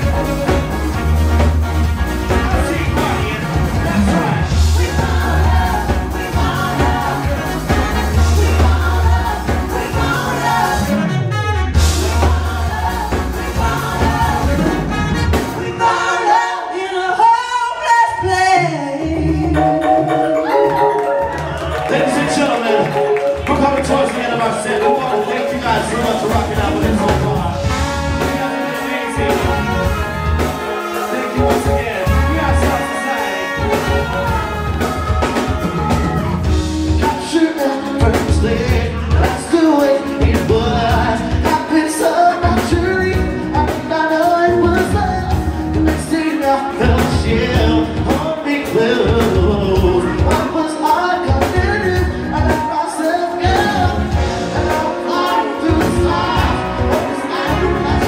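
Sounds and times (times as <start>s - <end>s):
steady drum beat: 0.0s - 16.0s, 21.2s - 58.0s
live rock band playing: 0.0s - 58.0s.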